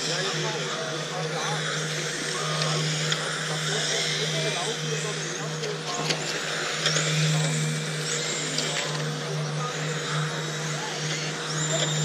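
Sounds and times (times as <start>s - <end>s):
electric toy cars racing: 0.0s - 12.0s
steady low hum: 0.0s - 12.0s.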